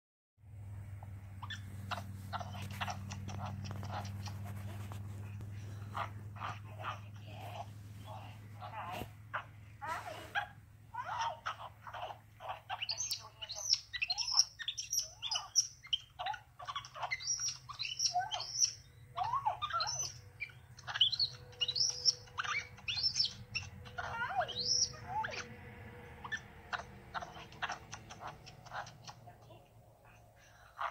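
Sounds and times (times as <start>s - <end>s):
baby monkey chirping and squeaking: 1.0s - 30.9s.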